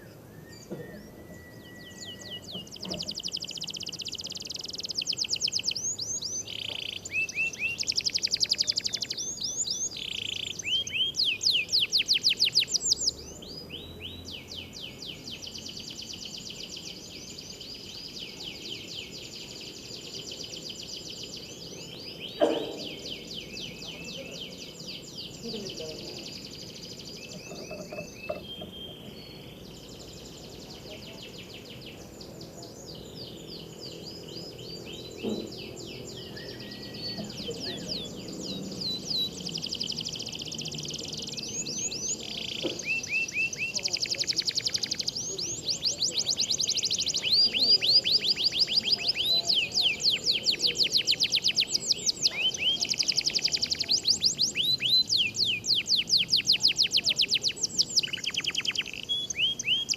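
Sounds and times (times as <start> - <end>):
canaries singing: 0.0 - 59.9.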